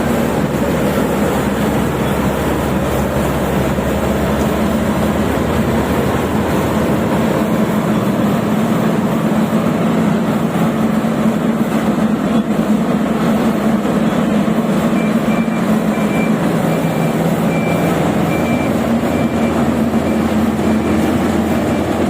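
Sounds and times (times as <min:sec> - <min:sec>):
combine harvester machinery drone: 0:00.0 - 0:22.0.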